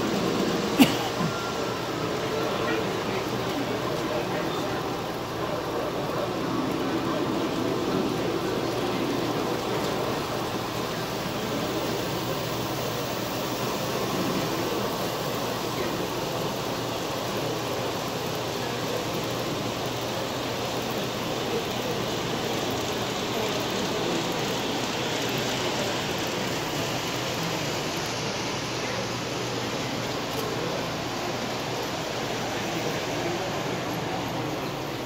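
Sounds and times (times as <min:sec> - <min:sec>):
model trains running on tracks: 0:00.0 - 0:35.0
murmur of crowd in hall: 0:00.0 - 0:35.0.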